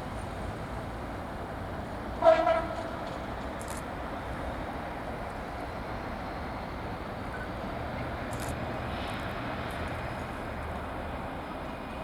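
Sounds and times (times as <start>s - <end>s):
diesel locomotive rumbling past: 0.0s - 12.0s.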